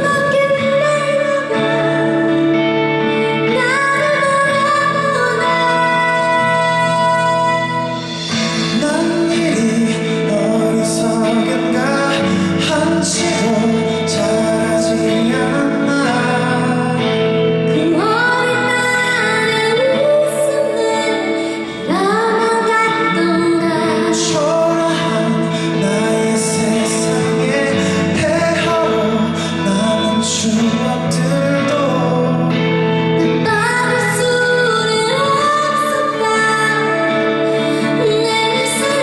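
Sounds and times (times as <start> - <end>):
instrumental accompaniment: 0.0 - 39.0
woman singing a slow ballad: 0.0 - 39.0.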